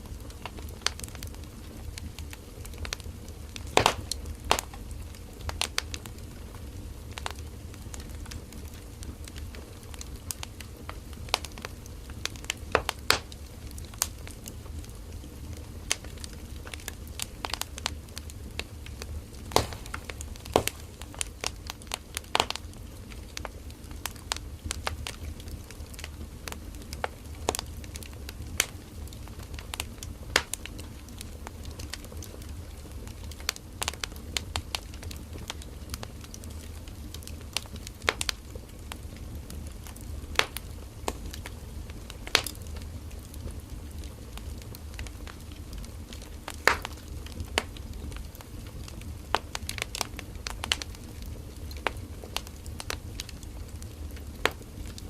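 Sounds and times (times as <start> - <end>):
campfire crackling and popping: 0.0 - 55.0
low rumble of fire: 0.0 - 55.0.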